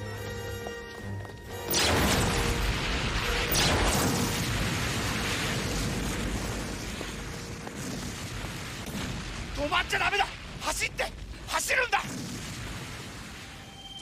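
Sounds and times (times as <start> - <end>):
explosion blast and rumble: 1.7 - 14.0.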